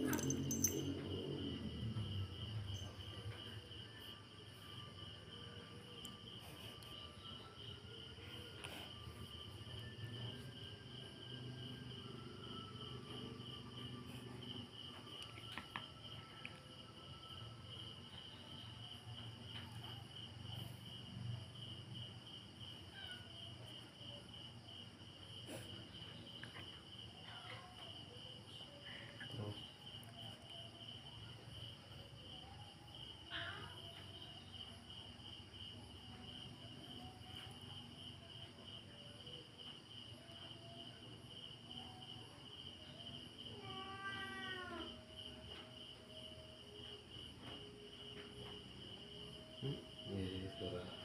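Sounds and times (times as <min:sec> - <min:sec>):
cats play-fighting on tiles: 0:00.0 - 0:50.1
cricket chirping: 0:00.0 - 0:51.0.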